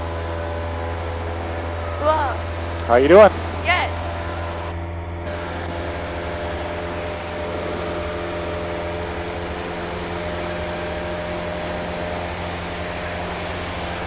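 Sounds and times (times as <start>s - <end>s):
airplane engine and propeller drone: 0.0s - 14.0s.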